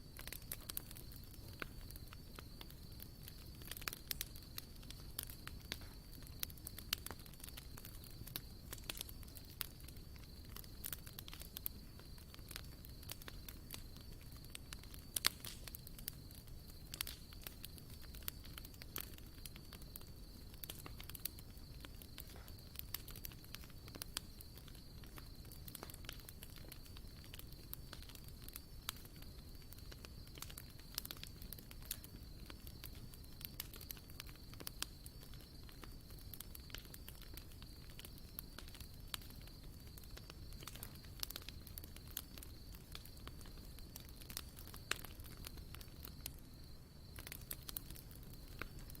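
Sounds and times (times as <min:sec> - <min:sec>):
campfire crackling: 0:00.0 - 0:49.0.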